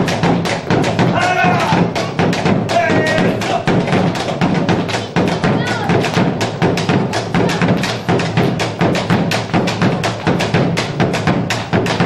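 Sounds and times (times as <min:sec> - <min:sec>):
folk music with percussive beat: 0:00.0 - 0:12.0.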